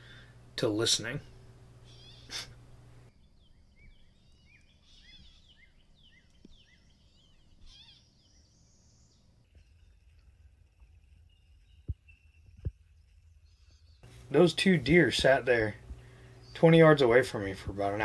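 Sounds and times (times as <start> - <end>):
faint bird chirping: 0.0 - 17.9.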